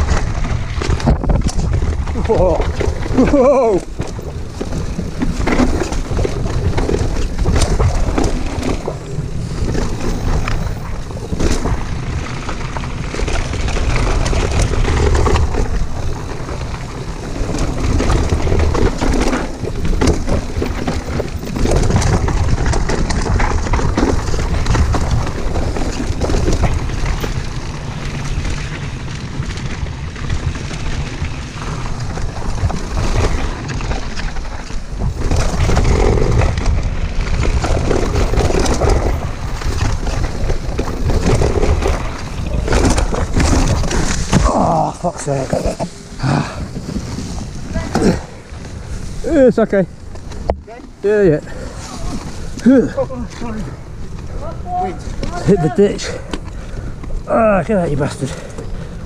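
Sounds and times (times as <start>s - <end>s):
bike rattling and knocking: 0.0s - 59.0s
tyres on dirt and stones: 0.0s - 59.0s
wind buffeting microphone: 0.0s - 59.0s.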